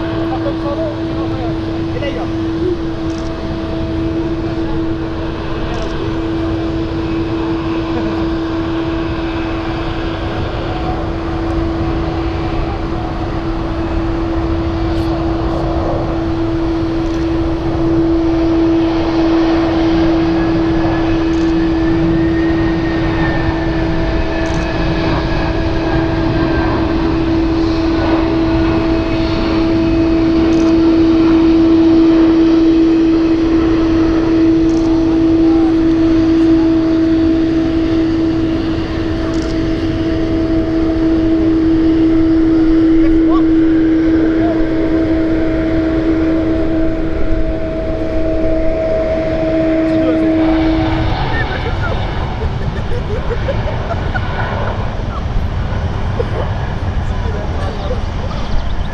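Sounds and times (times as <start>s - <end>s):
jet engines droning: 0.0s - 58.9s.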